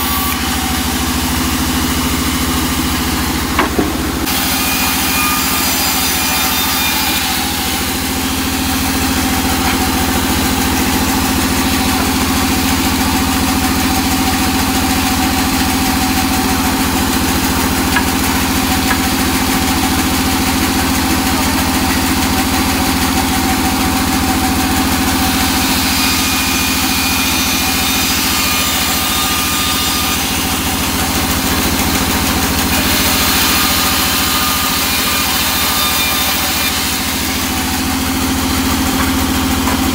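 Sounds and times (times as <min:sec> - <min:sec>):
band saw motor hum: 0:00.0 - 0:39.9.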